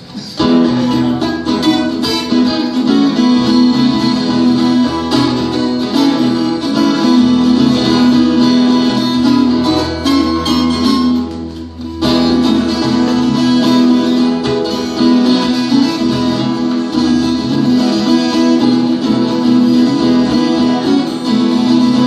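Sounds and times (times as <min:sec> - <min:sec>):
electric guitar: 0:00.0 - 0:22.0
live band playing: 0:00.0 - 0:22.0.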